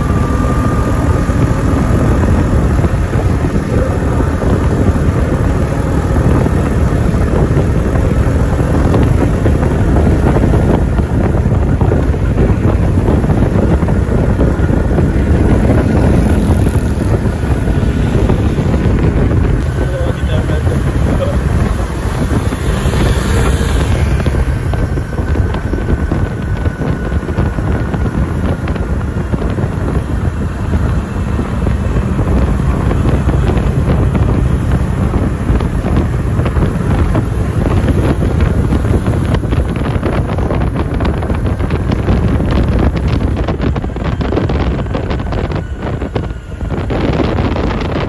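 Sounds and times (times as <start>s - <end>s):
moving vehicle rumble: 0.0s - 48.0s
wind buffeting microphone: 0.0s - 48.0s.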